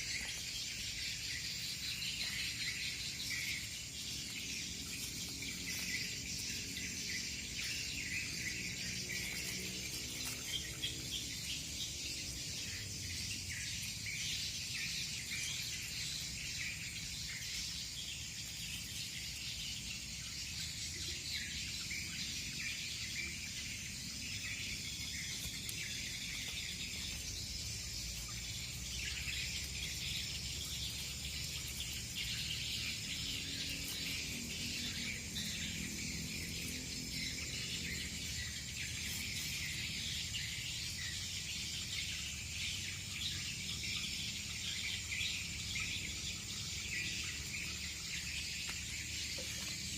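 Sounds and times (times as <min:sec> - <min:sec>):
birds chirping: 0:00.0 - 0:49.9
insects chirring: 0:00.0 - 0:49.9.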